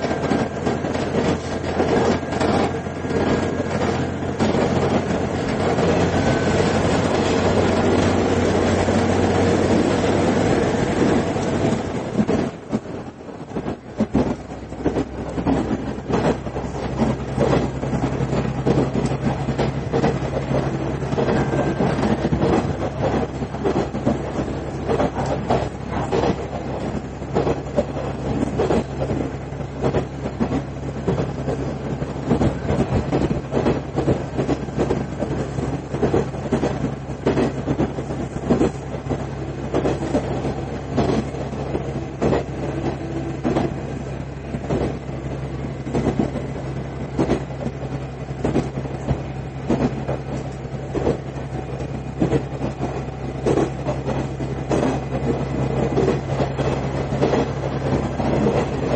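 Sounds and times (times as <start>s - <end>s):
diesel engine drone: 0.0s - 58.9s
train wheels clattering: 0.0s - 58.9s.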